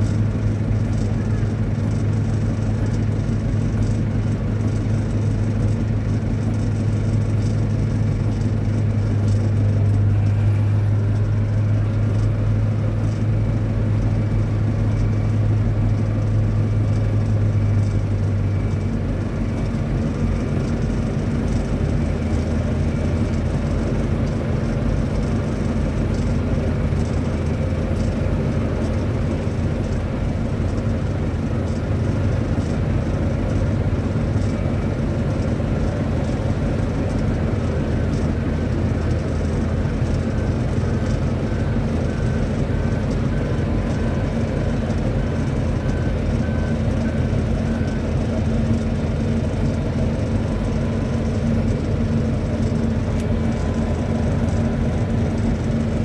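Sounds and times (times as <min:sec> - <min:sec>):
low machine drone: 0:00.0 - 0:56.0.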